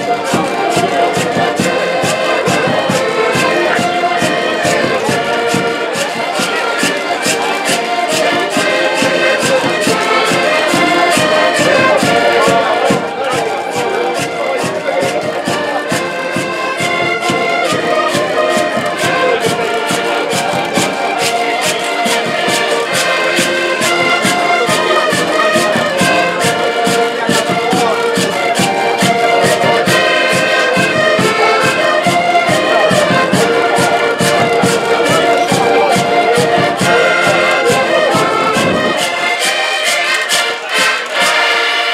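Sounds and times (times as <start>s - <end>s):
accordions playing tune: 0.0s - 41.9s.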